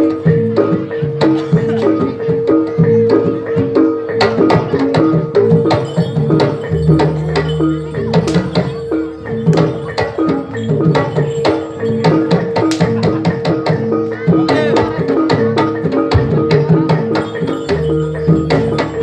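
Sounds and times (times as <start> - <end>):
drums and percussion playing: 0.0 - 19.0.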